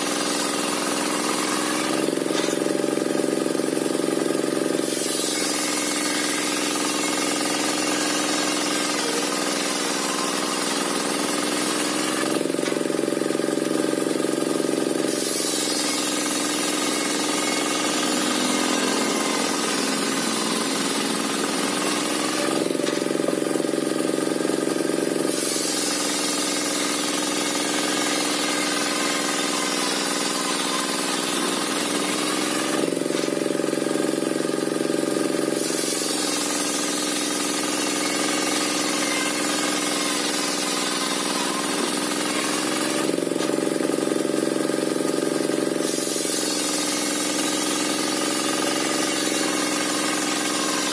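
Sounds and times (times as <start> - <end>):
circular saw motor running: 0.0 - 50.9
saw blade cutting wood: 0.0 - 50.9.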